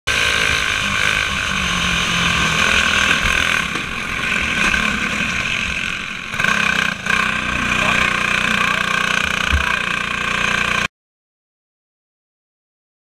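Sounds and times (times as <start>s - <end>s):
kart engine running hard: 0.1s - 10.9s.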